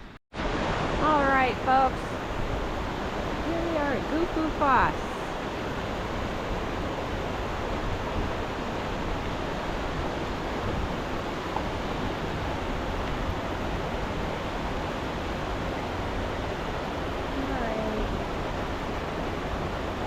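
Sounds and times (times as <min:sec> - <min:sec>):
waterfall roaring: 0:00.4 - 0:20.0.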